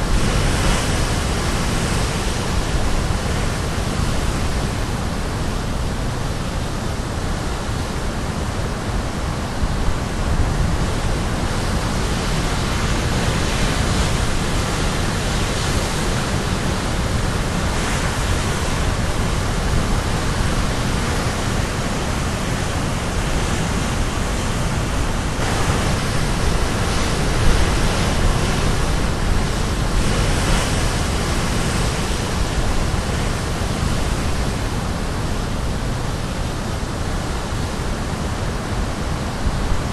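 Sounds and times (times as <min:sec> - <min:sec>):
sea surf breaking on shore: 0:00.0 - 0:39.9.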